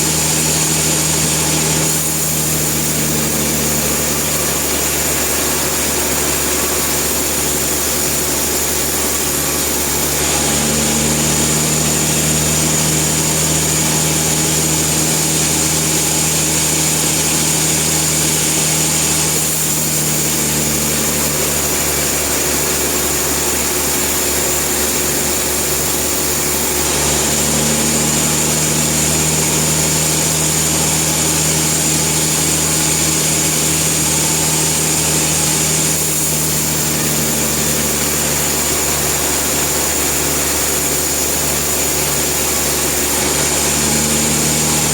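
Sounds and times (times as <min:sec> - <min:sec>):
sawmill engine hum with whine: 0:00.0 - 0:44.9.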